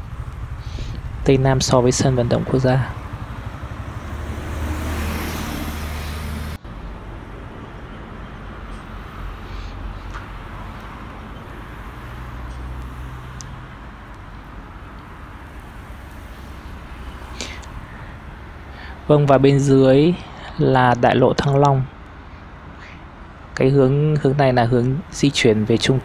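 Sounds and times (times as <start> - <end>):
road traffic noise: 0.0 - 26.0
vehicle engine humming: 0.0 - 26.0.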